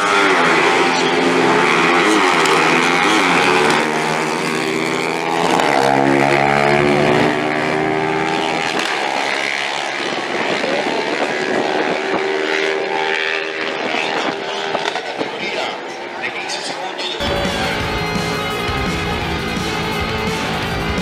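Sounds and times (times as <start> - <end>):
motorcycles accelerating: 0.0 - 21.0.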